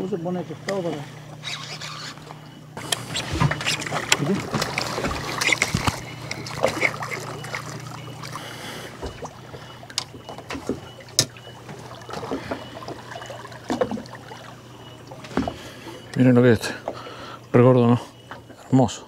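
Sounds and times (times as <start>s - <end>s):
water lapping against boat hull: 0.0s - 18.7s
low steady hum: 0.0s - 19.0s.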